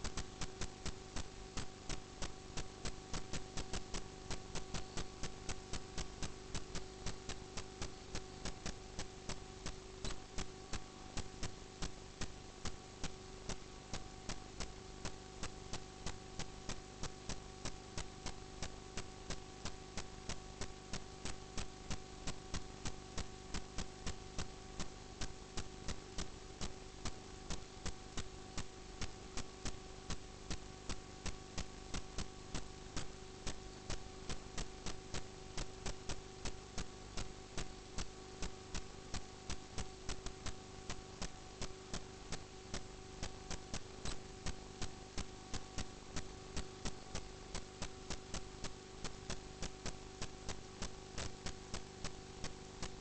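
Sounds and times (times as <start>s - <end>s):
electrical hum with tones: 0.0s - 53.0s
even electrical ticking: 0.0s - 53.0s.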